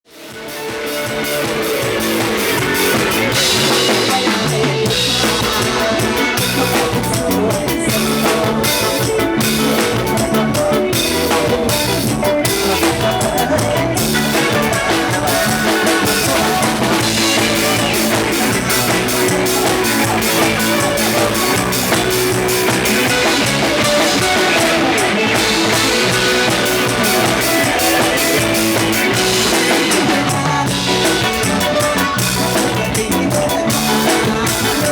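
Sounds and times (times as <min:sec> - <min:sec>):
electric guitar: 0:00.0 - 0:34.9
band playing: 0:00.1 - 0:34.9
drum kit beat: 0:00.1 - 0:34.9
electric bass: 0:00.2 - 0:34.9.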